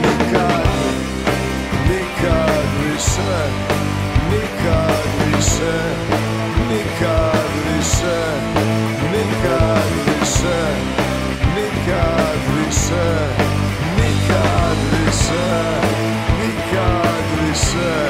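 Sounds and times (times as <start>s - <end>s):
drums: 0.0s - 18.0s
electric guitar bending: 0.0s - 18.0s
sustained bass notes: 0.0s - 18.0s.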